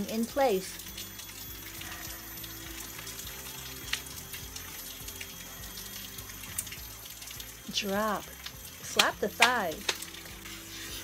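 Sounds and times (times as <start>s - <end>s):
soft background music: 0.0s - 11.0s
water splashing into stone basin: 0.0s - 11.0s.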